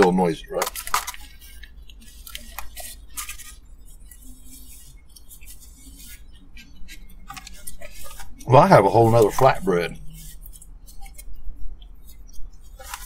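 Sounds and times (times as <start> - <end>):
bread being bitten and chewed: 0.0 - 13.0
paper wrapper crinkling: 0.0 - 13.0.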